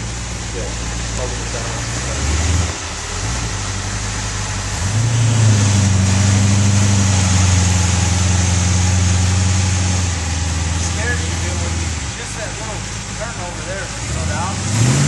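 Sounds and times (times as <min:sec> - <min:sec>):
buggy engine running: 0:00.0 - 0:15.0.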